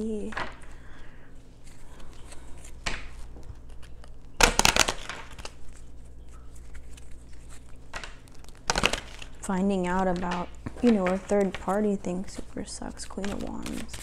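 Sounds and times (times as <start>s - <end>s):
rustling and crinkling handling: 0.0s - 14.0s.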